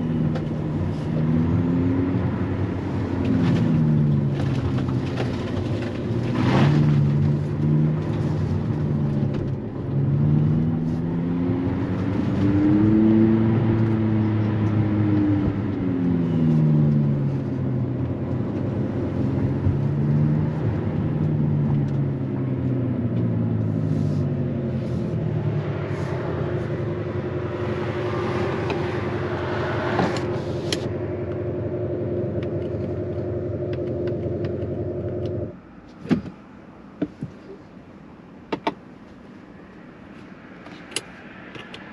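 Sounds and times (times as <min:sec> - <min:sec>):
tyre and road noise: 0:00.0 - 0:41.9.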